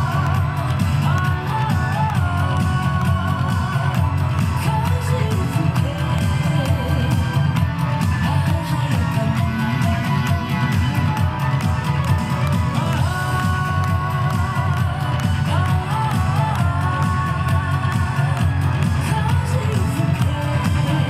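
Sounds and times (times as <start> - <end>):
dance music over loudspeakers: 0.0 - 21.0.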